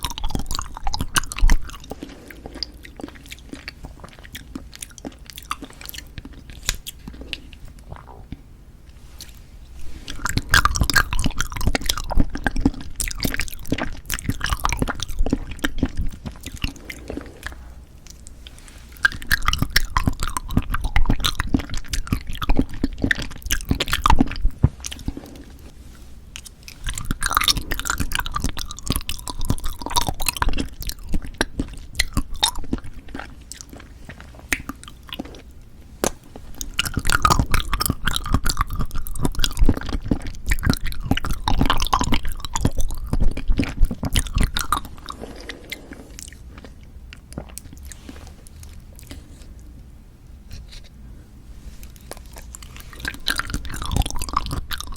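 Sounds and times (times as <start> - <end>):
person chewing jelly: 0.0 - 54.9.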